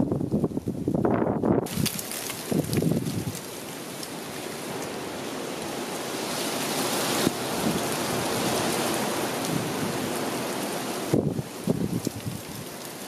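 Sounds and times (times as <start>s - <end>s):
wind blowing: 0.0s - 13.0s.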